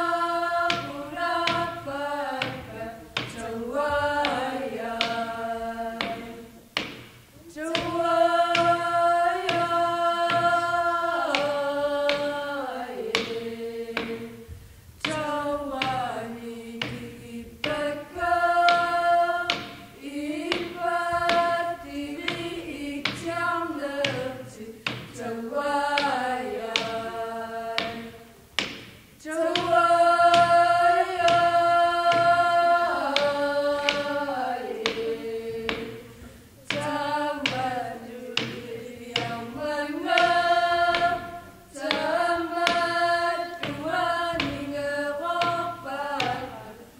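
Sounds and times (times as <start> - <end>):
young women singing in unison: 0.0 - 46.9
frame drum struck with stick: 0.1 - 46.8.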